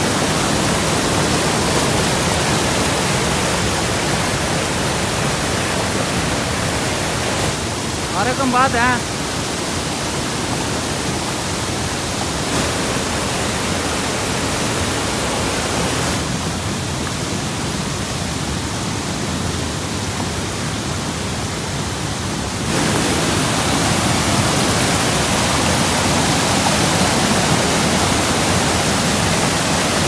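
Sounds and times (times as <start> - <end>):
water rushing over weir: 0.0 - 30.0.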